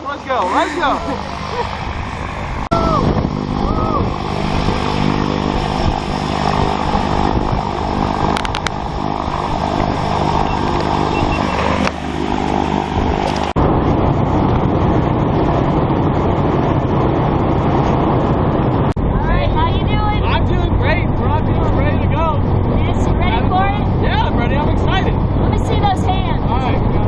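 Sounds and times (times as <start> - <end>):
propeller aircraft engine droning: 0.0 - 27.0
steady rushing noise: 0.0 - 27.0.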